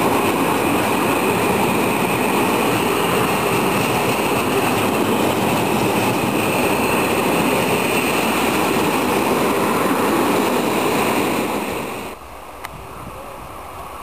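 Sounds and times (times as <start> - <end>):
train wheels rushing on rail: 0.0 - 14.0.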